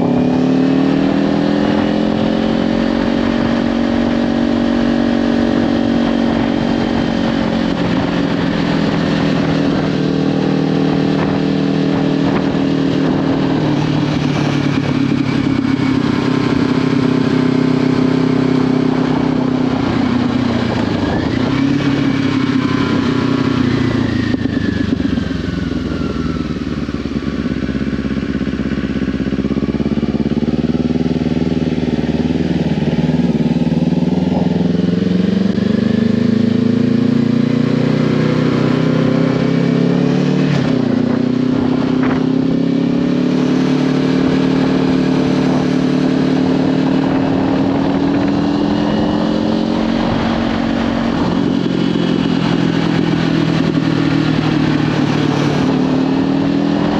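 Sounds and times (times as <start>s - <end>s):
motorcycle engine revving: 0.0s - 56.9s
wind noise on microphone: 0.0s - 56.9s.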